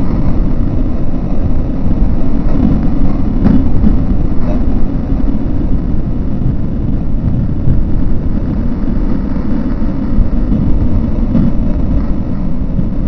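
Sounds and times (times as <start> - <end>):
loud low rumbling noise: 0.0 - 13.0.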